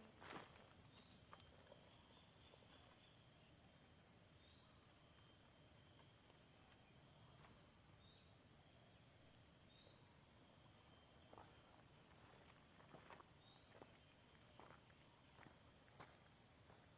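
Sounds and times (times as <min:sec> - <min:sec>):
insects droning: 0:00.0 - 0:16.9.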